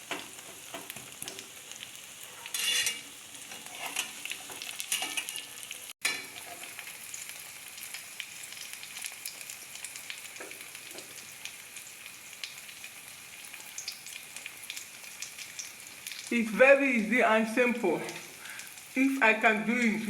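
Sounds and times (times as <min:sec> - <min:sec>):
bread frying in oil: 0:00.0 - 0:20.0.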